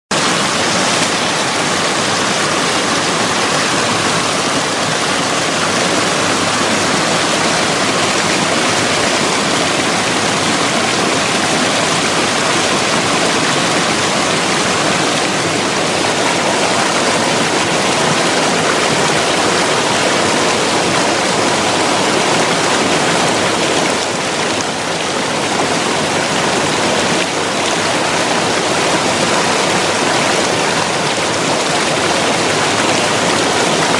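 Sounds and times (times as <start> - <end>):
waterfall rushing over rocks: 0.1 - 33.9.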